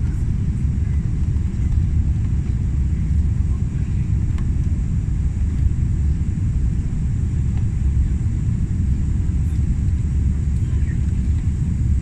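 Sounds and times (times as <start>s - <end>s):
airplane cabin engine rumble: 0.0s - 12.0s
faint high engine whine: 0.0s - 12.0s.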